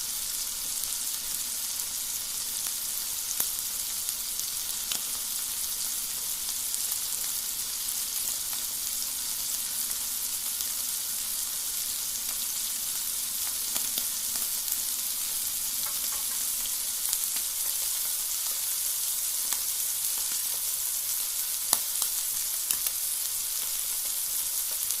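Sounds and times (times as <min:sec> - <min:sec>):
meat sizzling over campfire: 0:00.0 - 0:25.0.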